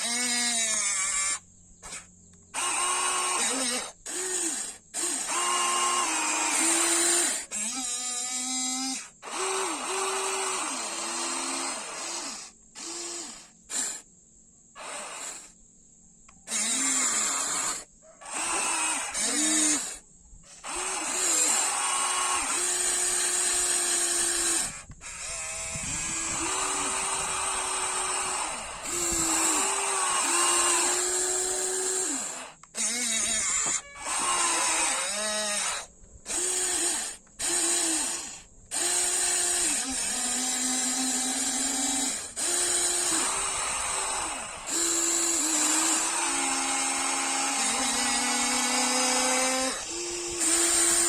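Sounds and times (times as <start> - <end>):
small electric motors whining: 0.0 - 14.1, 14.7 - 15.6, 16.2 - 51.0.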